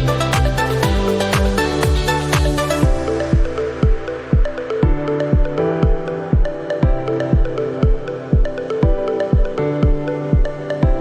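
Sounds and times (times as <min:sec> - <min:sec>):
kick drum beat: 0:00.0 - 0:11.0.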